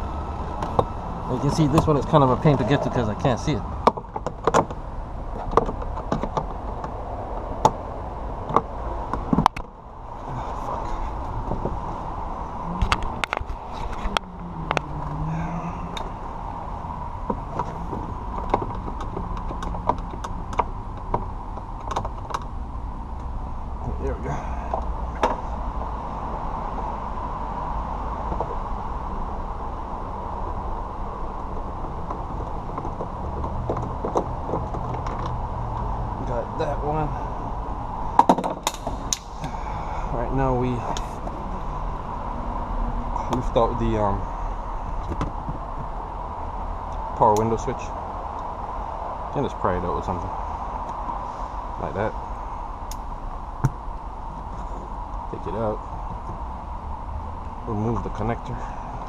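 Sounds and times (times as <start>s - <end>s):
background rumble and hiss: 0.0s - 59.0s.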